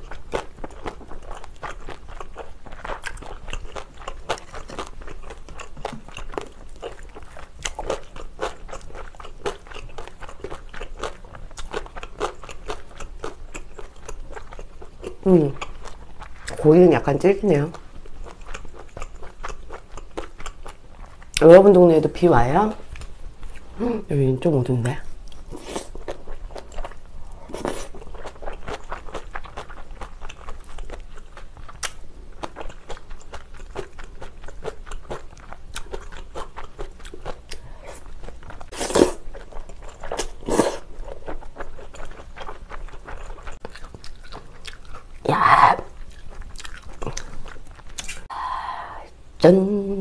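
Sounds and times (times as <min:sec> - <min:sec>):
chewing and crunching food: 0:00.0 - 0:21.9, 0:24.7 - 0:48.3.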